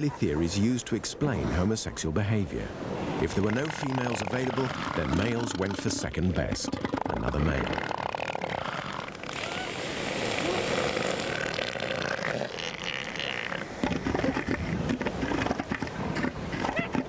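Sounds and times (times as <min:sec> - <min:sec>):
seal hoarse cry: 0:03.2 - 0:17.0
rapid pulsing seal calls: 0:03.3 - 0:17.0.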